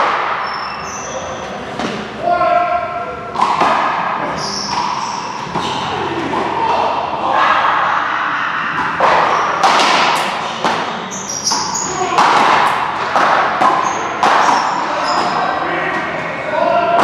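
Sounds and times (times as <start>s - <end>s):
background voices in echoing room: 0.0s - 17.0s.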